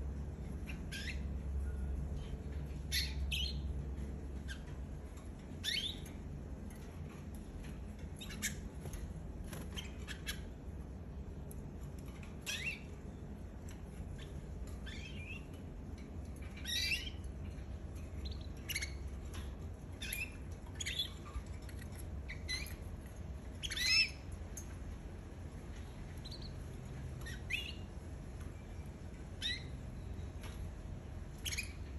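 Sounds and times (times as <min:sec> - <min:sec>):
canary chirping: 0:00.0 - 0:31.9
steady low hum: 0:00.0 - 0:31.9.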